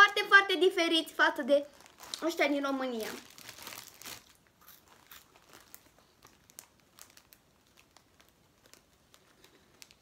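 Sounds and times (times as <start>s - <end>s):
plastic bag crinkling: 1.5s - 10.0s.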